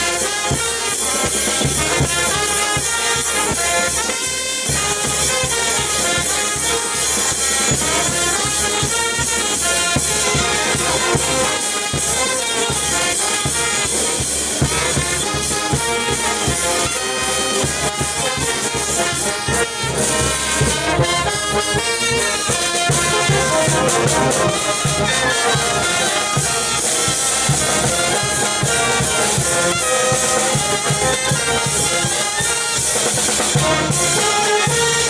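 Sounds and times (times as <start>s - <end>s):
brass band playing lively tune: 0.0s - 35.0s
drums and cymbals beat: 0.0s - 35.0s.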